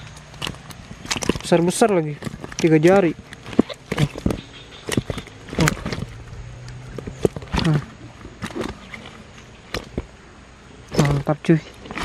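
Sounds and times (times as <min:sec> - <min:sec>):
wet fish slapping and rustling: 0:00.0 - 0:12.0.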